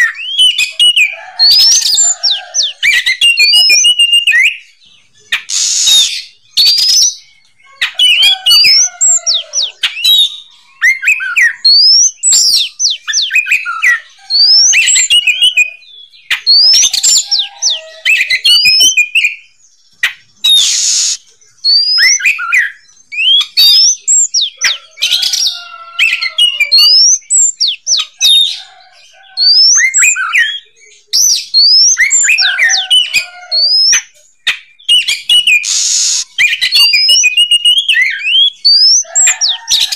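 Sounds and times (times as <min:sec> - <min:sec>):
bird singing whistled song: 0:00.0 - 0:28.6, 0:29.2 - 0:39.9.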